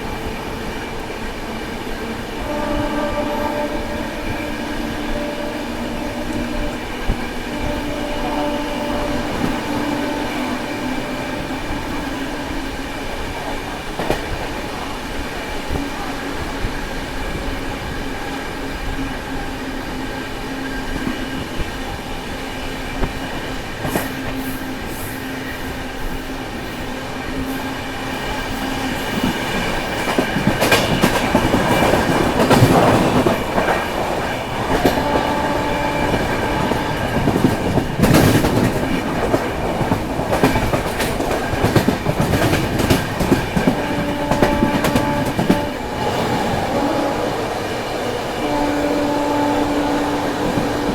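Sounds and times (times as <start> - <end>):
train wheels clattering on rails: 0.0 - 50.9.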